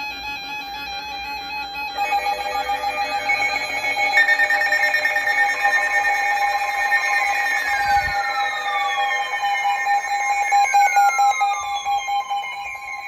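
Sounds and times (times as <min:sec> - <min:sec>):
steady emergency alert tones: 0:01.9 - 0:12.9
falling tones sliding downward: 0:02.0 - 0:13.0.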